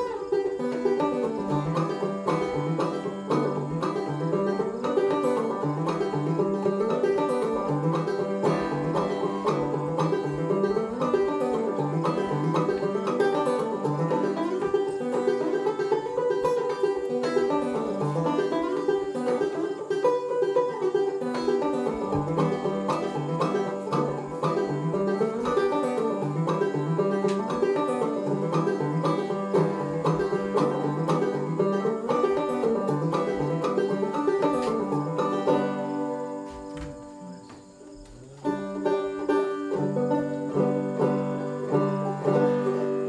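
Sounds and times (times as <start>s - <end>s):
banjo playing: 0.0s - 43.0s.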